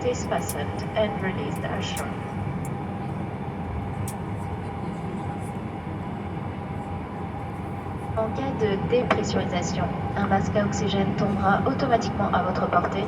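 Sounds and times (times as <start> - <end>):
airliner cabin engine rumble: 0.0 - 13.0
faint constant hum: 0.0 - 13.0.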